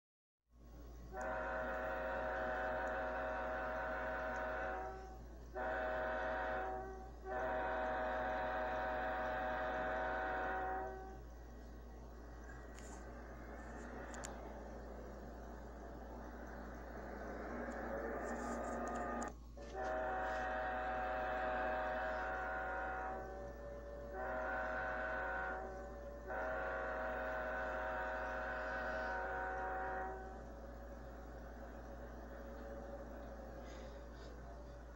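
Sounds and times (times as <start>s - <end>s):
steady low hum: 0.5s - 34.9s
train horn chord through speaker: 1.1s - 34.9s.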